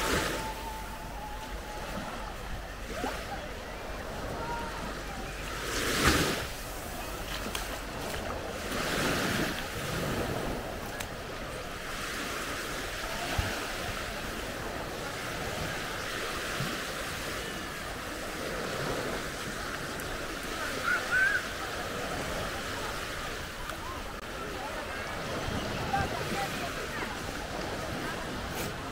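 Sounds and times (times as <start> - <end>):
waves breaking on sandy beach: 0.0 - 28.9.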